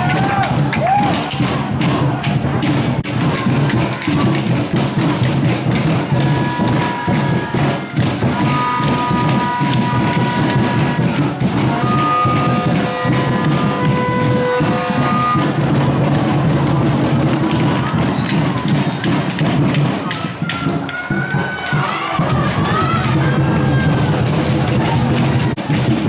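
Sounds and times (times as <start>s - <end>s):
music with drums: 0.0s - 26.0s.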